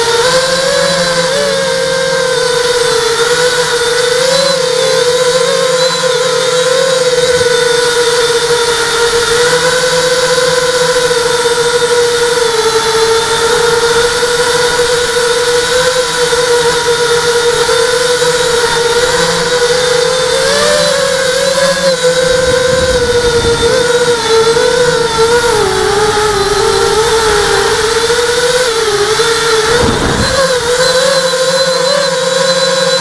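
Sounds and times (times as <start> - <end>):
drone motors and propellers whining: 0.0 - 33.0.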